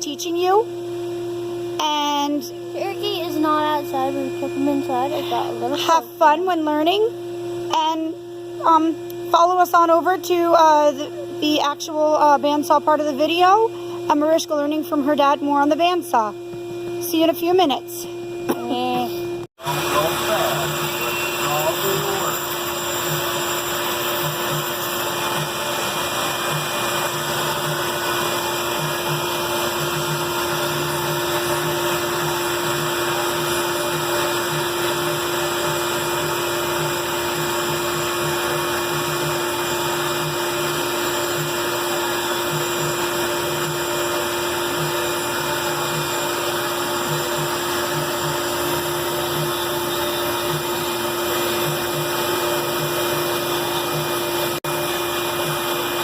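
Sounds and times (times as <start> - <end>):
band saw whirring: 0.6 - 9.3, 10.5 - 56.0.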